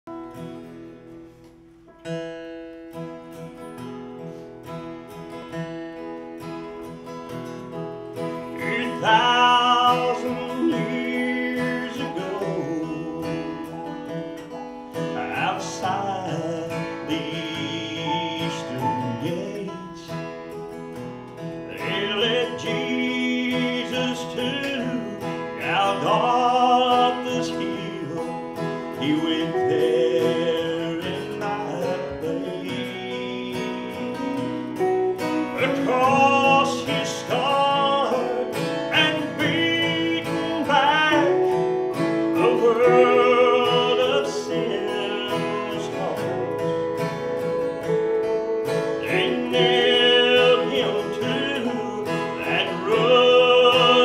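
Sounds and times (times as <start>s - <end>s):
acoustic and electric guitar: 0.0s - 54.0s
man singing: 8.2s - 20.4s, 21.6s - 54.0s.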